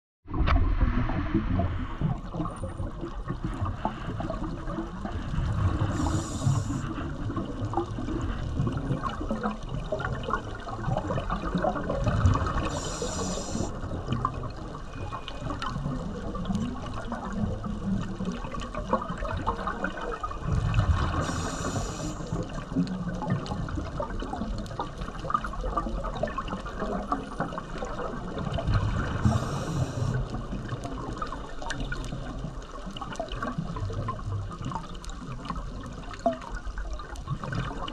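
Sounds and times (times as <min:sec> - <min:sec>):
exhaled bubbles from regulator: 0:00.3 - 0:37.9
underwater rush and gurgle: 0:00.3 - 0:37.9.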